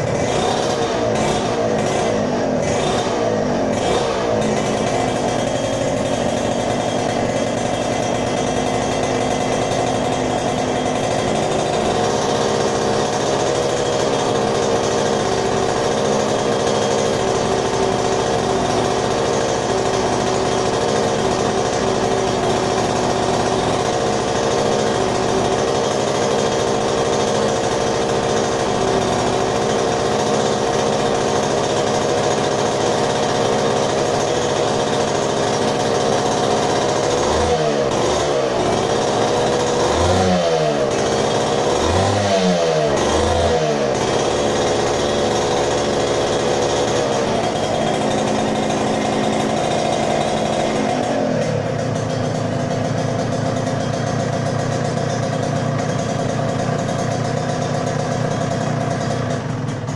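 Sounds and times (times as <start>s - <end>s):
two-stroke engine idling: 0.0s - 59.9s.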